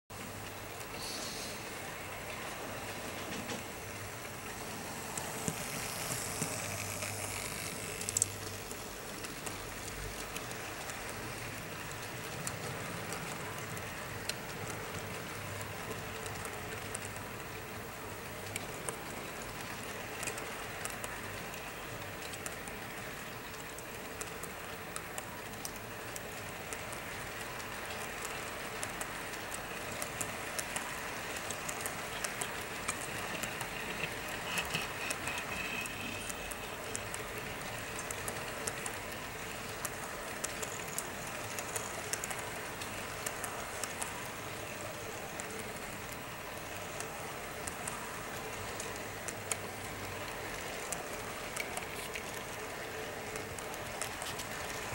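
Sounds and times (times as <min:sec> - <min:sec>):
model train wagons rolling: 0:00.1 - 0:54.9
small clicks on track: 0:05.1 - 0:54.9.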